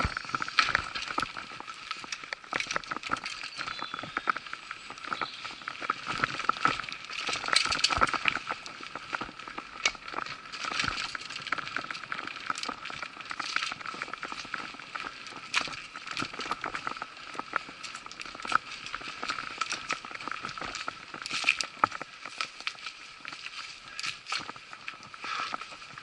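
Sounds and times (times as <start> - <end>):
bike rattling over roots: 0.0 - 26.0
tyres crackling over twigs: 0.0 - 26.0.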